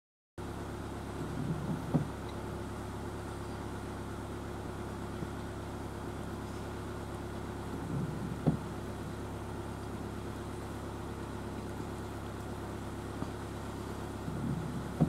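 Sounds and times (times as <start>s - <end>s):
engine idling: 0.4s - 15.0s.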